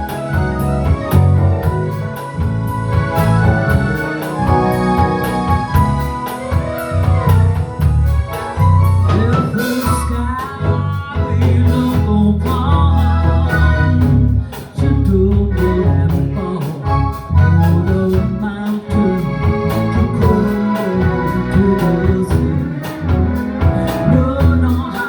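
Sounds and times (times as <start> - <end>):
bass line: 0.0 - 25.0
live blues band playing: 0.0 - 25.0
steady drum beat: 0.0 - 25.0.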